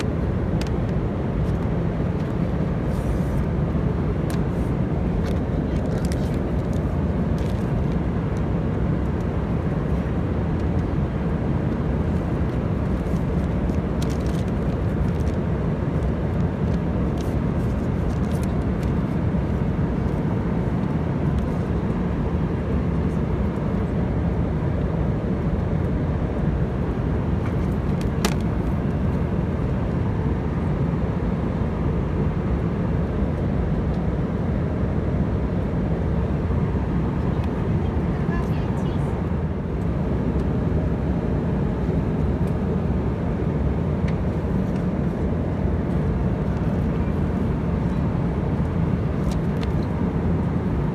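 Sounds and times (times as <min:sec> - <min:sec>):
airliner cabin engine roar: 0:00.0 - 0:50.9.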